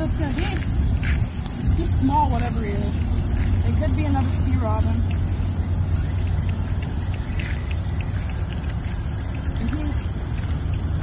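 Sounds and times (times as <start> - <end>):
high-pitched insect chorus: 0.0 - 11.0
low steady rumble: 0.0 - 11.0.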